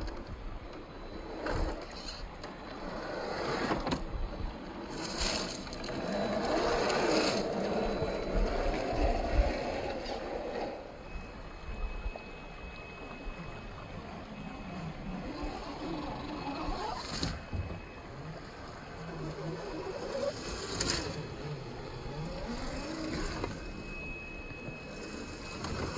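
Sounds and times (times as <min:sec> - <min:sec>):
electric motors and gears droning: 0:00.0 - 0:25.9.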